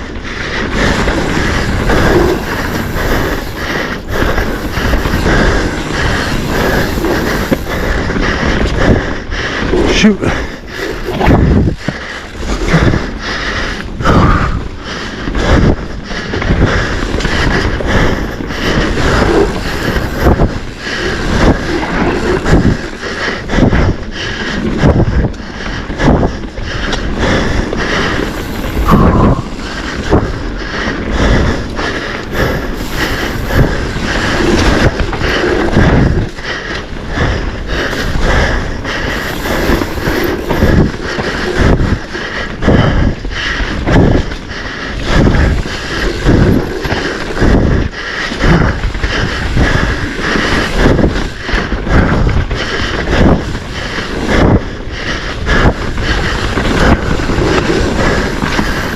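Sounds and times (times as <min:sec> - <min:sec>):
bike rattling and knocking: 0:00.0 - 0:58.9
wind on microphone: 0:00.0 - 0:58.9.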